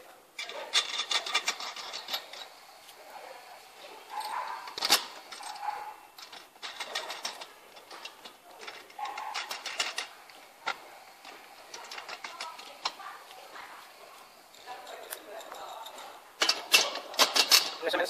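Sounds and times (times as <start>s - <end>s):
small metal clicks and clinks: 0.4s - 2.7s, 4.1s - 17.8s.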